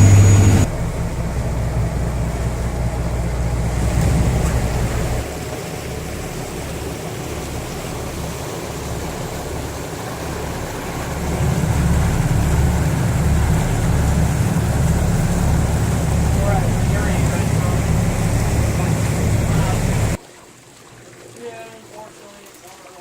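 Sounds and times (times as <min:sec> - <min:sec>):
boat engine rumbling: 0:00.0 - 0:20.2
water noise: 0:00.0 - 0:23.0
wind: 0:00.0 - 0:23.0.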